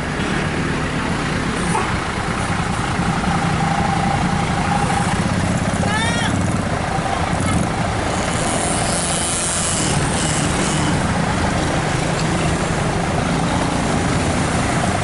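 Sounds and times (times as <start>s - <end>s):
diesel engine droning: 0.0s - 15.0s
road noise: 0.0s - 15.0s.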